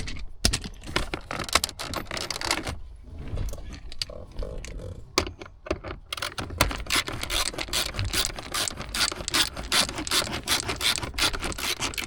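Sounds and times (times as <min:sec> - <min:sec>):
hand tools clicking and scraping: 0:00.0 - 0:02.8, 0:03.5 - 0:12.0.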